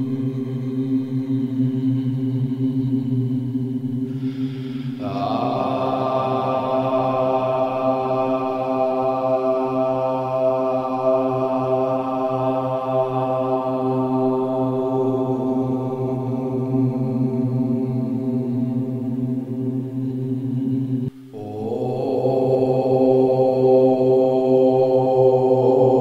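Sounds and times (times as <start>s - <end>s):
low droning chant: 0.0s - 26.0s.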